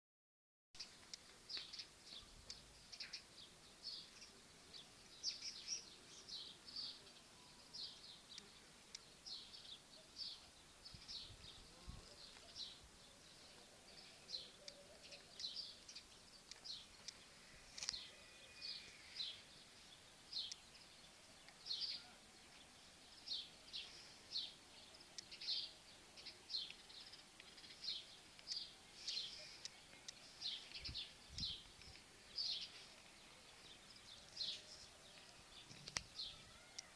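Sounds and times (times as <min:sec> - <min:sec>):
faint background hiss: 0:00.8 - 0:36.9
small birds chirping: 0:00.8 - 0:36.9.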